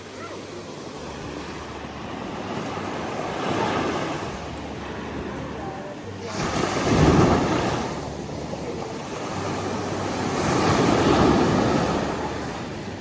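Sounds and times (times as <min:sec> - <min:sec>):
waves washing in: 0:00.0 - 0:13.0.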